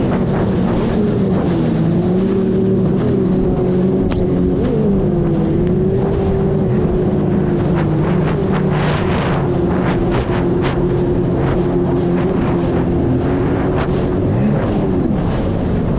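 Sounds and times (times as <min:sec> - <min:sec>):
jet ski engine running: 0:00.0 - 0:15.9
water splashing: 0:00.0 - 0:15.9.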